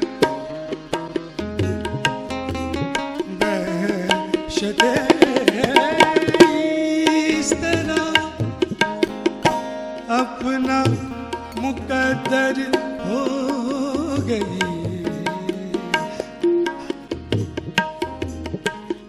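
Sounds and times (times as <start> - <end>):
plucked string melody: 0.0 - 19.0
tabla playing: 0.0 - 19.0.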